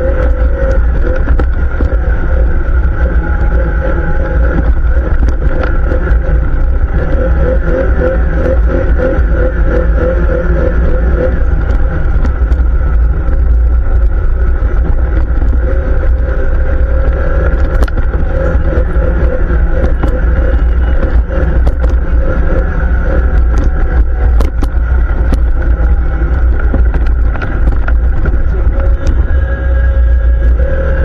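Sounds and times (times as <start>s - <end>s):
quad bike engine running: 0.0s - 31.0s.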